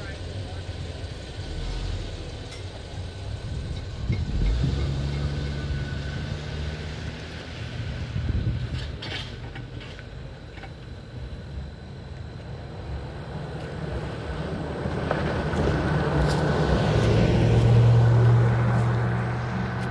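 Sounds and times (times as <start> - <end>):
pickup truck passing by: 0.0 - 9.4, 11.8 - 19.9.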